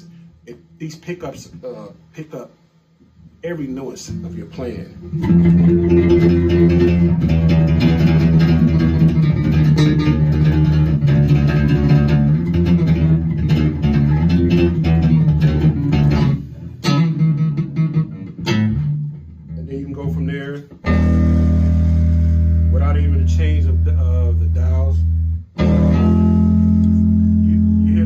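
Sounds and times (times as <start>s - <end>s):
electric bass plucked notes: 4.1s - 28.0s.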